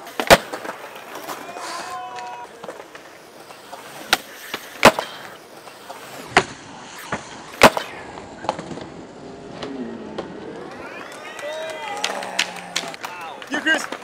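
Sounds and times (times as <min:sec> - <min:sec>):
skateboard clacks: 0:00.0 - 0:09.0, 0:10.1 - 0:14.0
skateboard wheels rolling on concrete: 0:00.0 - 0:14.0.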